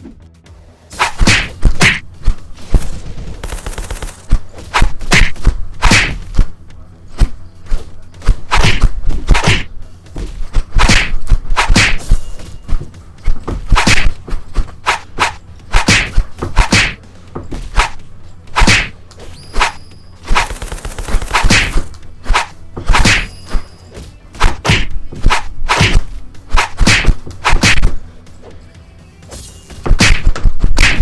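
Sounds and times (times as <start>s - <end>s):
loud whacks and thumps: 0.9s - 6.5s, 7.1s - 28.0s, 29.3s - 31.0s.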